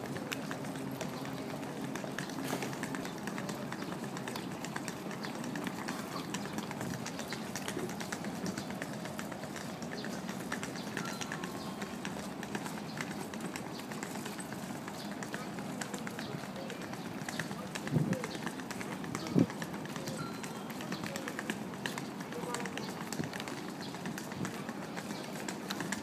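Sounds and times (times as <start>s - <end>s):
footsteps on brick paving: 0.0s - 26.0s.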